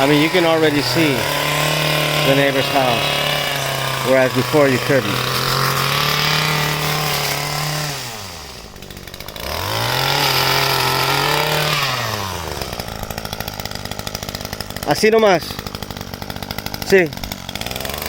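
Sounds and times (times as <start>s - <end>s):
two-stroke trimmer engine revving: 0.0s - 18.0s.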